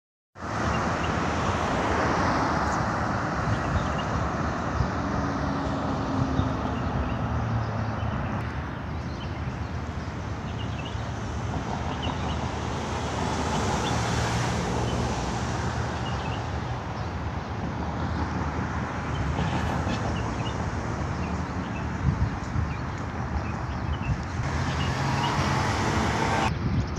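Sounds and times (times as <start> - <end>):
road traffic rushing: 0.4 - 26.9.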